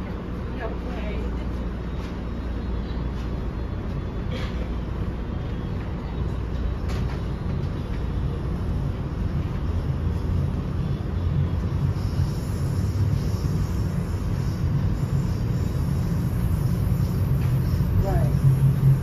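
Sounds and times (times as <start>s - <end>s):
train coach low rumble: 0.0s - 19.0s.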